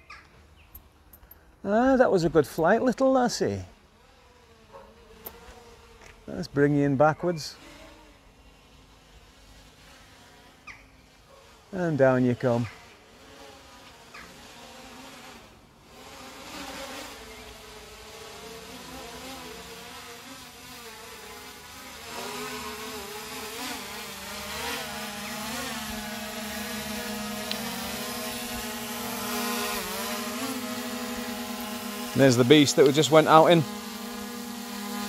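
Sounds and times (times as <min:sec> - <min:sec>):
drone propellers buzzing: 0:03.7 - 0:35.0.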